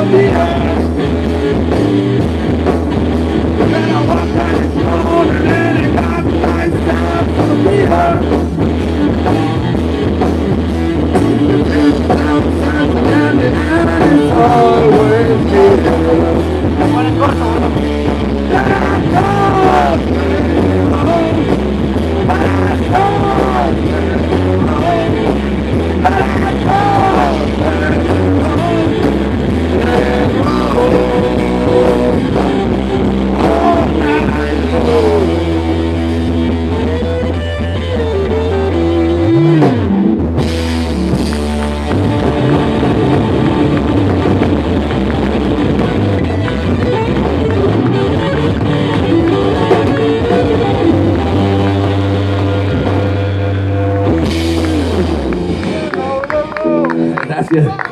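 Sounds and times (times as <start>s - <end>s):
guitar bent notes: 0.0s - 57.9s
rock band playing: 0.0s - 57.9s.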